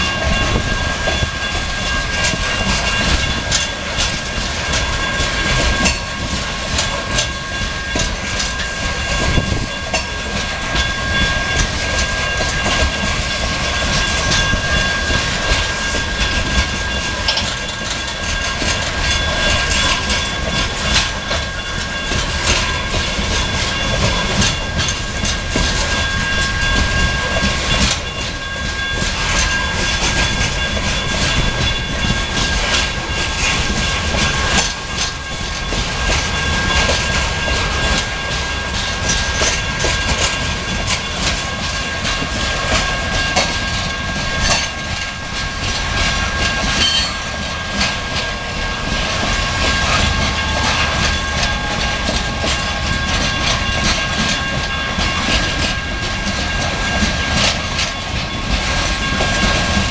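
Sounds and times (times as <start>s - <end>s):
high ringing tone: 0.0s - 59.9s
rail cars rumbling past: 0.0s - 59.9s
wheels clattering over rail joints: 0.0s - 59.9s.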